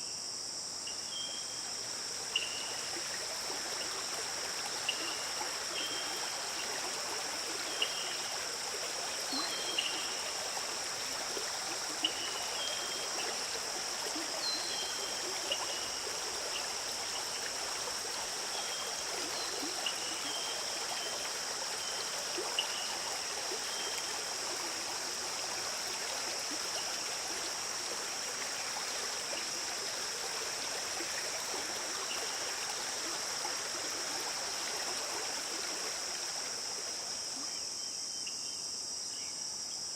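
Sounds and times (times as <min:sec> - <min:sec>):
stream trickling: 0:00.0 - 0:39.5
high-pitched insect hum: 0:00.0 - 0:39.9.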